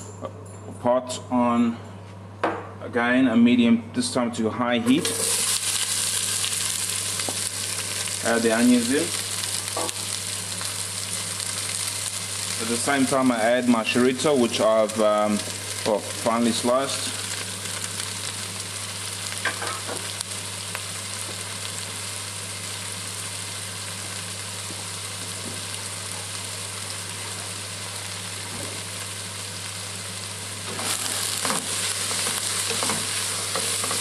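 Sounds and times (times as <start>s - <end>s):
onions sizzling in a pot: 5.0s - 34.0s.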